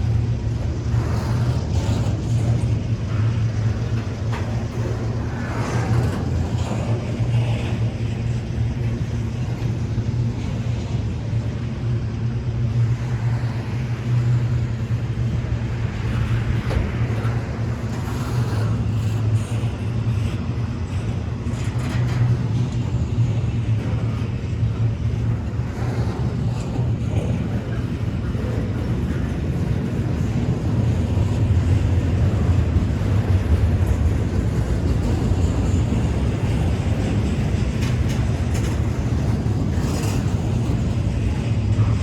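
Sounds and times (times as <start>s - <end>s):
freight train rumbling and rattling: 0.0s - 42.0s.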